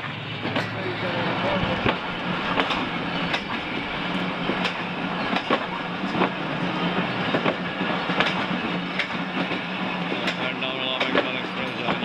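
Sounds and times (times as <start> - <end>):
low hum: 0.0 - 10.3
train rumble: 0.0 - 12.0
train wheels clacking: 0.0 - 12.0.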